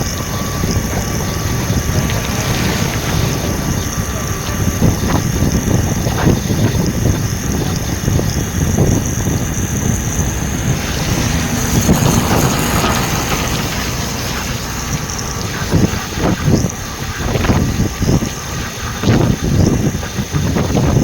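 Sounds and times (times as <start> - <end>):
vehicle low rumble: 0.0 - 21.0
wind buffeting microphone: 0.0 - 21.0.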